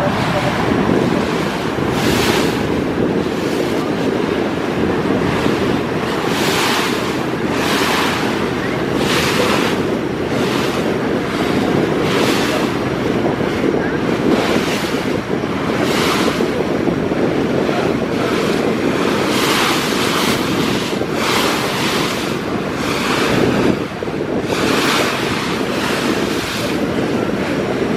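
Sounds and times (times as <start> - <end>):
boat engine drone: 0.0 - 27.9
river water splashing and rushing: 0.0 - 27.9
wind buffeting microphone: 0.0 - 27.9.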